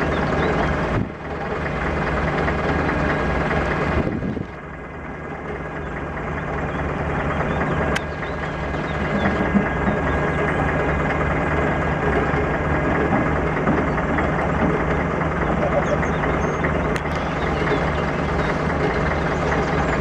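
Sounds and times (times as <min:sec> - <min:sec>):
diesel truck engine throbbing: 0:00.0 - 0:20.0.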